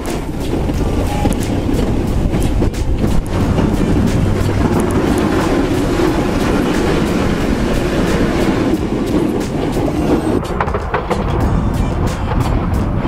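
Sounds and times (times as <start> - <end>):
plow blade scraping snow: 0.0 - 10.6
truck engine running: 0.0 - 13.0.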